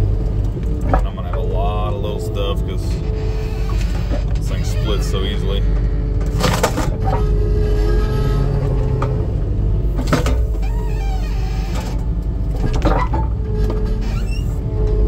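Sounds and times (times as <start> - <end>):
engine running under load: 0.0 - 15.0
hydraulic whine: 0.0 - 15.0.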